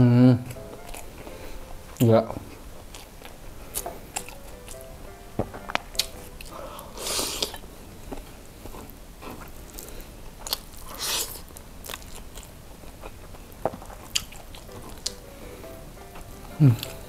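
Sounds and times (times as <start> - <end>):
person chewing food: 0.4 - 17.0.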